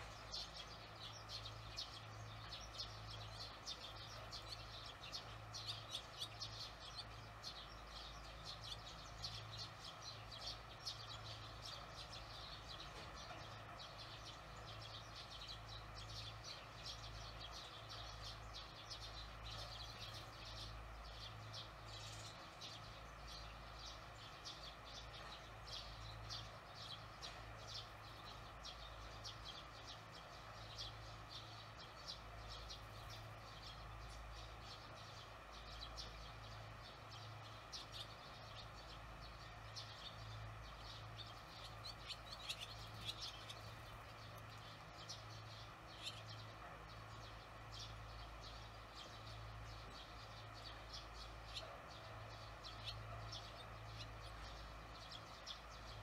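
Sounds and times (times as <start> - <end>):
low steady hum: 0.0 - 56.0
swallows chirping: 0.0 - 56.0.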